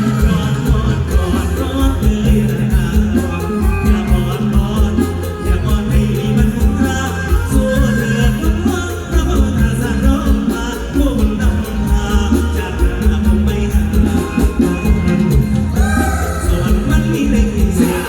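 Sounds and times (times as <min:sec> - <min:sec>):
live band music with bass: 0:00.0 - 0:18.0
person singing: 0:00.0 - 0:18.0.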